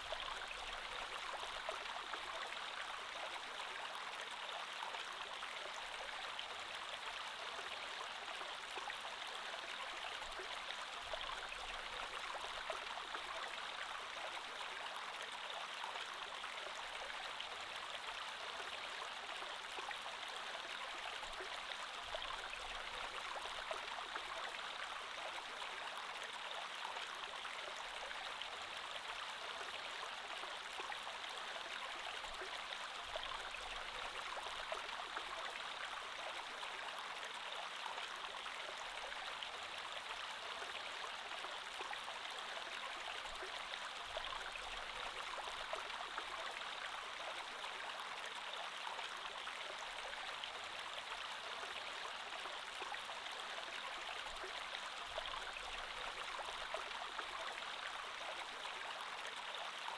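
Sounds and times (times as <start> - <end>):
creek water flowing over stones: 0.0 - 59.9.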